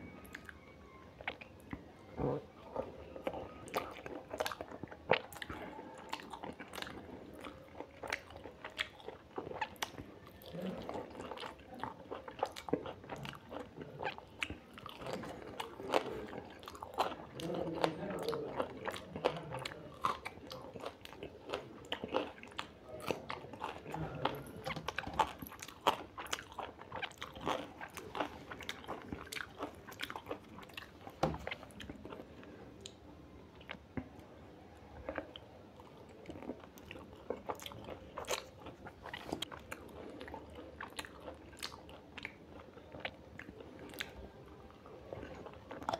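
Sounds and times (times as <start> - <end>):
person chewing: 1.2 - 45.9.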